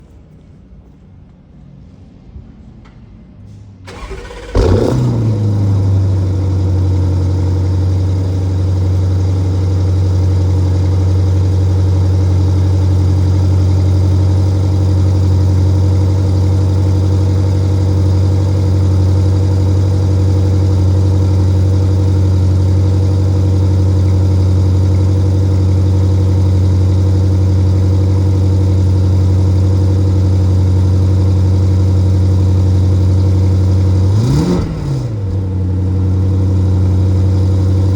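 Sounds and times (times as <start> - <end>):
car engine idling: 3.9 - 37.9.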